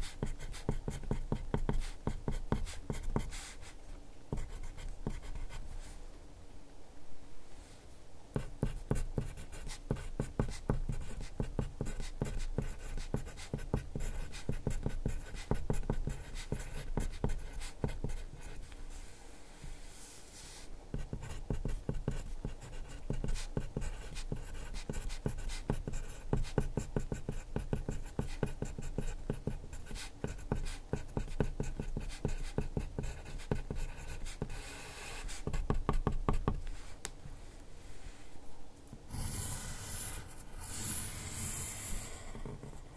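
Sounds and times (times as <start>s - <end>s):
pencil scratching on paper: 0.0s - 5.6s, 8.4s - 18.8s, 19.9s - 36.7s, 39.1s - 42.9s.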